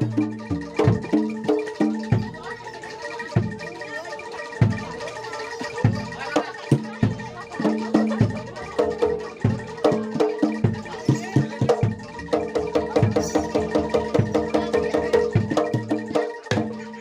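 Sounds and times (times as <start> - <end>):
drum strokes: 0.0 - 17.0
gamelan music: 0.0 - 17.0.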